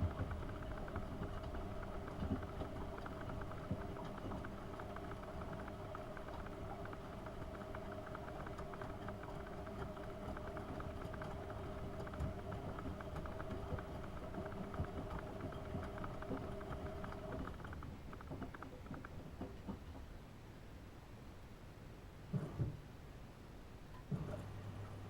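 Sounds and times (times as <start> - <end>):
washing machine motor hum: 0.0 - 19.8, 24.0 - 25.0
laundry patter in turning drum: 0.0 - 20.1.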